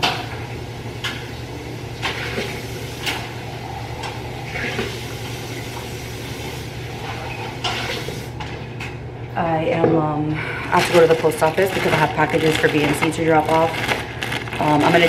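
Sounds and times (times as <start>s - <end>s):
coffee maker humming: 0.0s - 9.0s, 10.4s - 15.0s.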